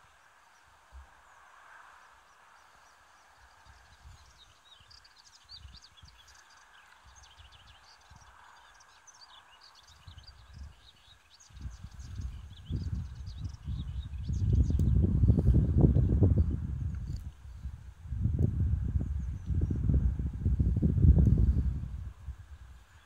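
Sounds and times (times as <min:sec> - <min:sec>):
warbler singing: 0:02.2 - 0:17.8, 0:18.4 - 0:21.8.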